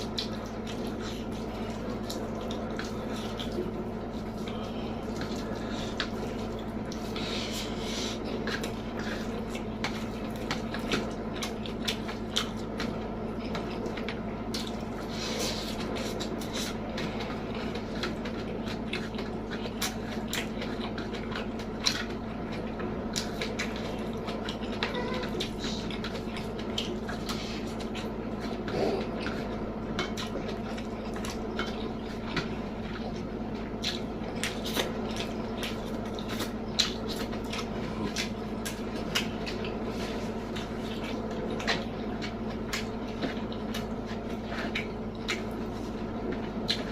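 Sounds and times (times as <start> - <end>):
wet chewing and mouth smacks: 0.0 - 46.9.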